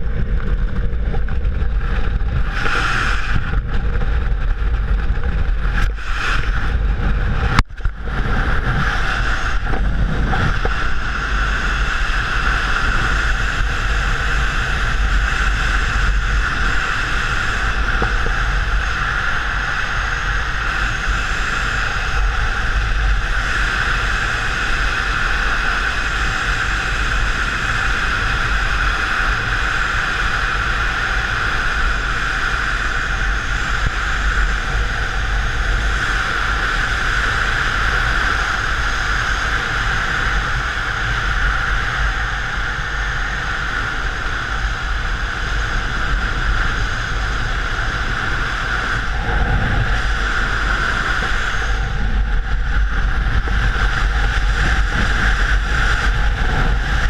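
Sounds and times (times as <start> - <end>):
steady engine drone: 0.0 - 57.0
wind rumble on microphone: 0.0 - 57.0.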